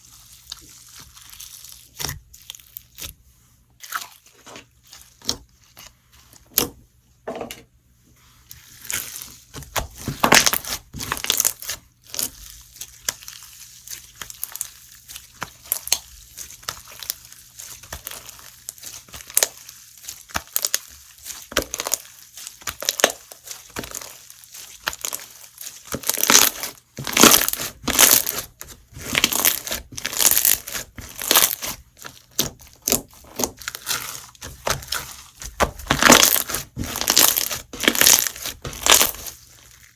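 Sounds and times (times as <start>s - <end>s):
slime crunching and crackling: 0.0s - 6.8s, 8.4s - 39.9s.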